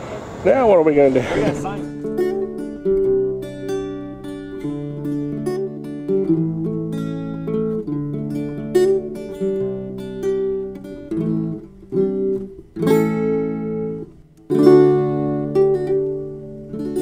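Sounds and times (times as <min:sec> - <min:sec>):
strummed acoustic guitar: 0:01.2 - 0:17.0.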